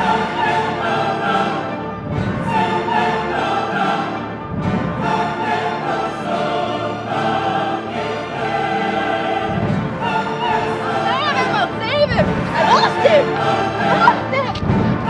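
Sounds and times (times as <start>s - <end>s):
choir singing held notes: 0.0s - 15.0s
classical orchestral music: 0.0s - 15.0s.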